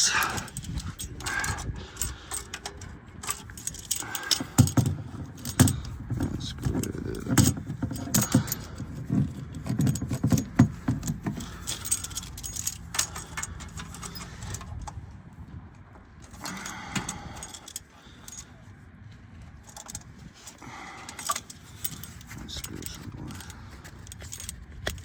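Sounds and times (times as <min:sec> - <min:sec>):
metal tools clinking and rattling: 0:00.0 - 0:15.0, 0:16.2 - 0:18.7, 0:19.3 - 0:25.0.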